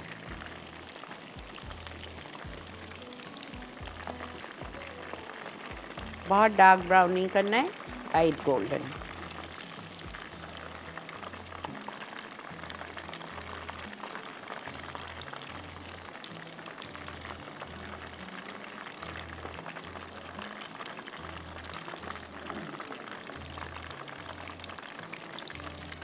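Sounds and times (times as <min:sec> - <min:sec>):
background music bass line: 0:00.0 - 0:26.0
chicken deep-frying in oil: 0:00.0 - 0:26.0.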